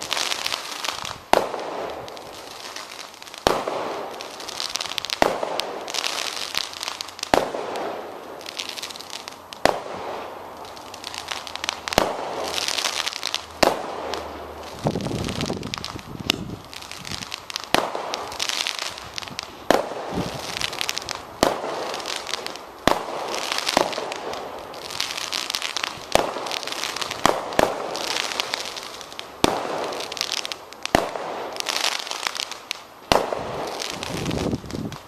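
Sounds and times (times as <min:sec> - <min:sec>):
firework bangs: 0:00.0 - 0:35.0
firework crackling: 0:00.0 - 0:35.0.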